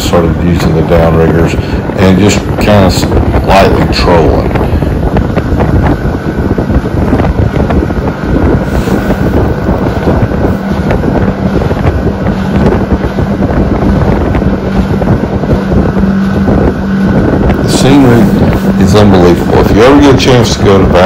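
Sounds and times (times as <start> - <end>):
boat motor humming: 0.0 - 21.0
wind buffeting microphone: 0.0 - 21.0.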